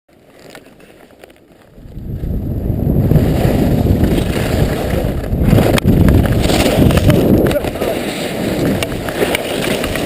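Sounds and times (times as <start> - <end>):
wind buffeting microphone: 1.7 - 10.0.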